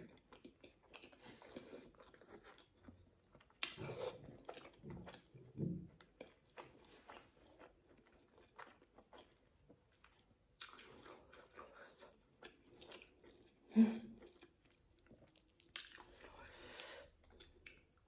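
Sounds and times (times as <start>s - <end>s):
chewing with wet mouth clicks: 0.2s - 5.3s, 6.0s - 13.6s, 14.2s - 16.5s, 17.1s - 18.0s.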